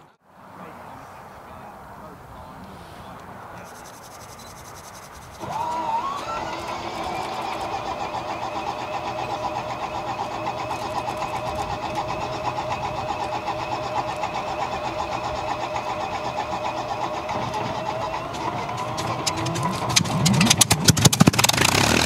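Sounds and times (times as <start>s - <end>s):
aircraft engine cranking: 3.6s - 22.0s
fast-pulsing mechanical whine: 3.6s - 22.0s.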